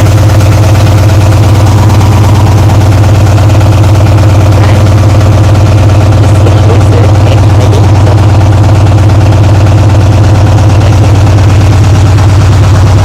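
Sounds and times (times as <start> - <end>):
diesel locomotives idling: 0.0 - 13.0.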